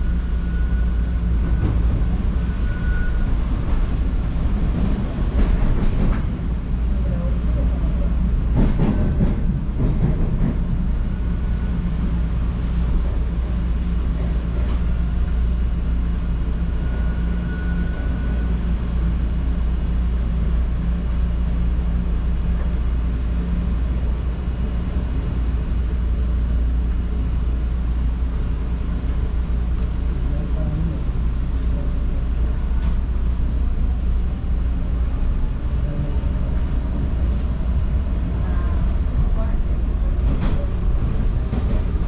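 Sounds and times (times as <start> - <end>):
subway train rumble: 0.0 - 42.0.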